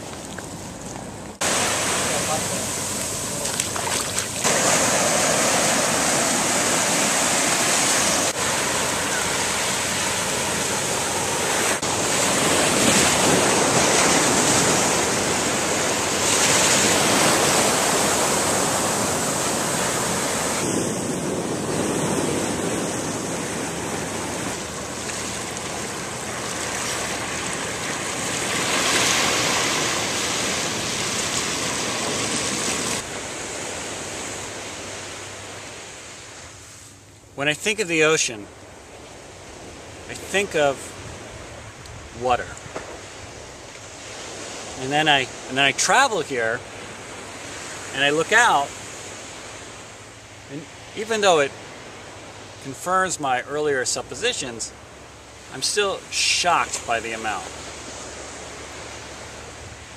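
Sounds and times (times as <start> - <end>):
surf washing in: 0.0 - 59.9.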